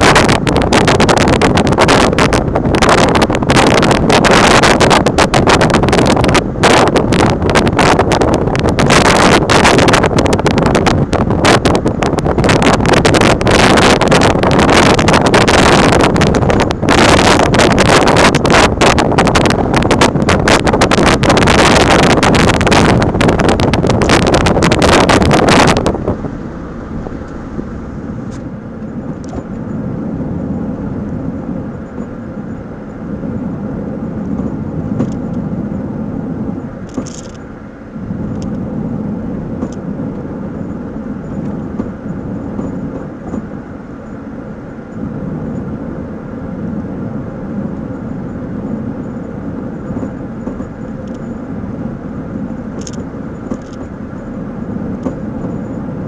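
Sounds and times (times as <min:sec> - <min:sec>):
car road noise rumble: 0:00.0 - 0:56.0.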